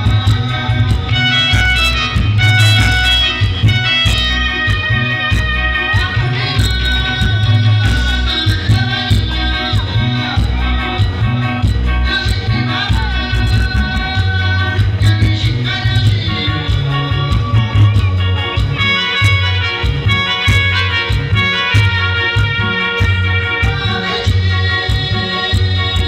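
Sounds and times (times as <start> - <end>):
loud dance music: 0.0 - 26.0
person singing: 0.0 - 26.0.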